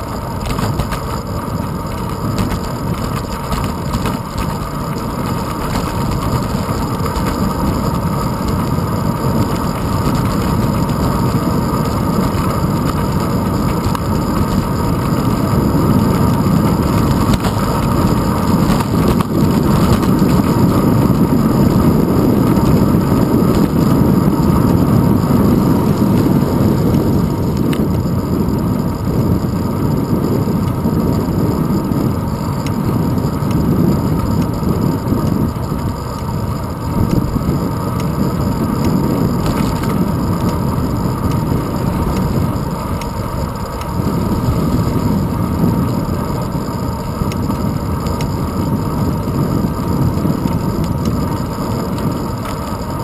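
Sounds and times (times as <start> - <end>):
bicycle road rumble: 0.0 - 53.0
wind noise: 0.0 - 53.0.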